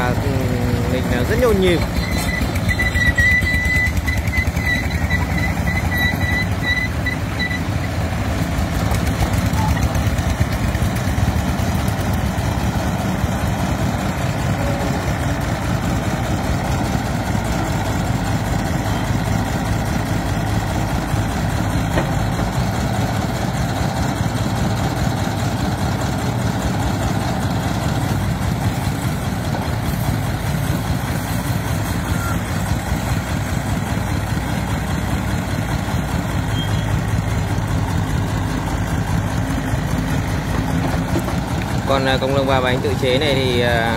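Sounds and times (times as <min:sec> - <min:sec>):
mini excavator engine working: 0:00.0 - 0:43.9
single-cylinder diesel idling: 0:00.0 - 0:43.9.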